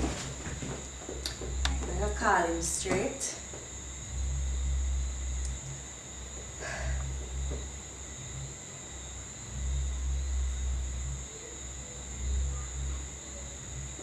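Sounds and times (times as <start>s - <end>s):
high-pitched whine: 0.0s - 14.0s
low background rumble: 0.0s - 14.0s.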